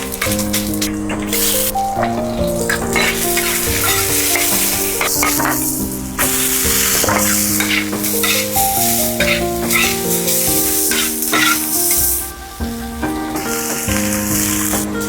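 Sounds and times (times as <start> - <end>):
spatula scraping pan: 0.0 - 12.2
background music: 0.0 - 15.0
food sizzling: 0.0 - 15.0.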